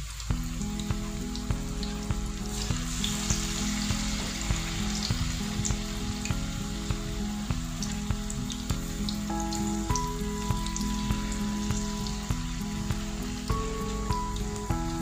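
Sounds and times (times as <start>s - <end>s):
background music with steady beat: 0.0s - 15.0s
food sizzling in frying oil: 0.0s - 15.0s.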